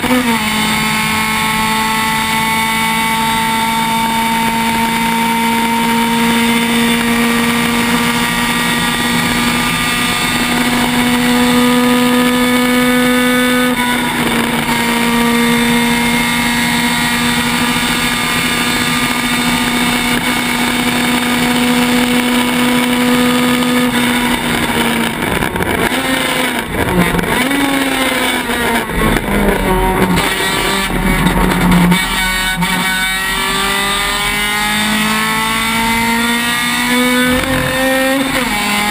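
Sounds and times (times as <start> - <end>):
race car engine from inside: 0.0 - 38.9.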